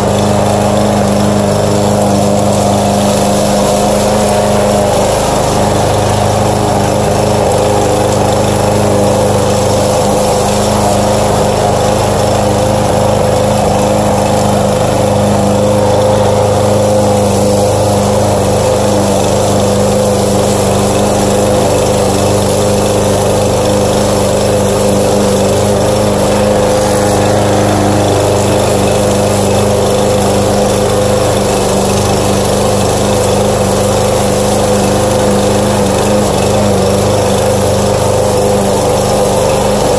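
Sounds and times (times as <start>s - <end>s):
lawn mower engine hum: 0.0s - 39.9s.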